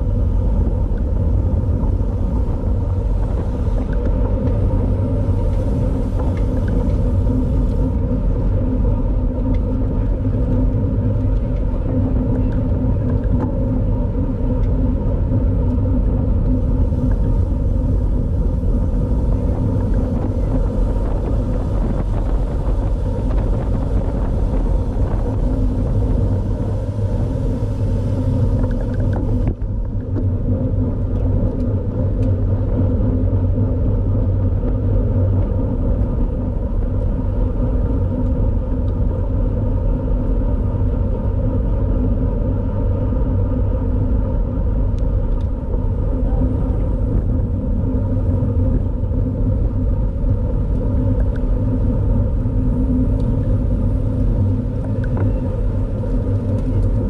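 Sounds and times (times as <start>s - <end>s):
tyres humming on pavement: 0.0s - 57.0s
wind buffeting microphone: 0.0s - 57.0s.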